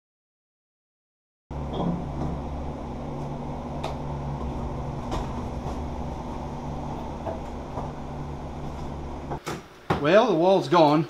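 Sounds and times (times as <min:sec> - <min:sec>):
low mechanical hum: 0:01.5 - 0:11.0.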